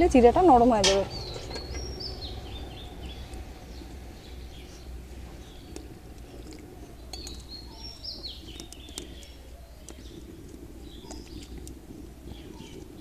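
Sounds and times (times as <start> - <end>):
birds chirping: 0.0 - 13.0
low steady hum: 0.0 - 13.0.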